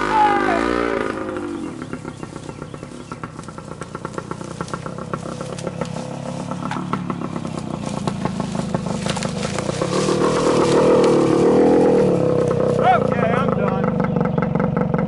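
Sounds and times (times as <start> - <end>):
motorcycle engine popping at low revs: 0.0 - 15.0.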